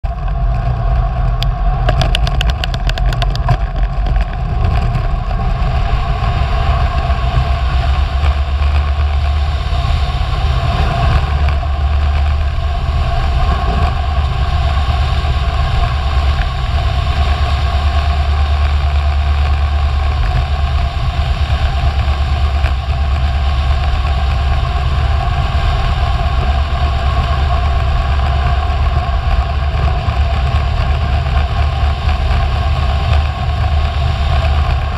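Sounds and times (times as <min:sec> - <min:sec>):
wind buffeting camera: 0:00.0 - 0:34.9.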